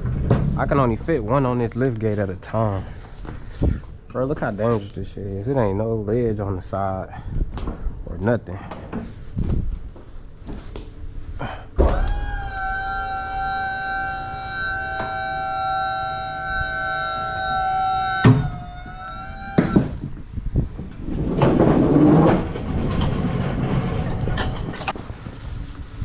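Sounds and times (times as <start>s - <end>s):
rattling rumbling noise: 0.0s - 8.4s, 11.7s - 26.0s.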